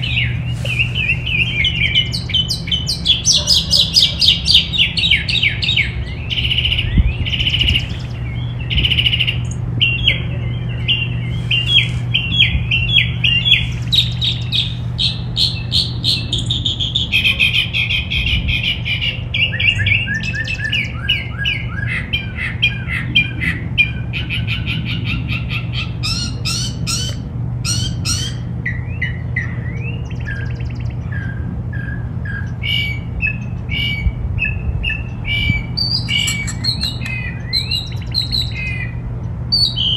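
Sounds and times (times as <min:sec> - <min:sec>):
songbirds chirping and singing: 0:00.0 - 0:39.9
steady low hum: 0:00.0 - 0:39.9.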